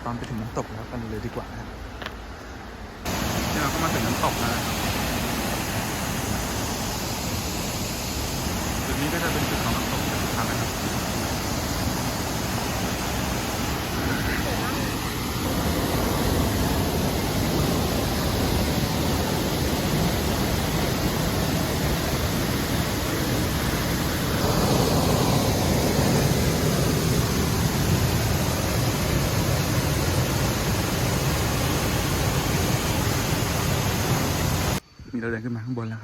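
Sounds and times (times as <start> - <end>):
waterfall roaring: 3.0 - 34.8.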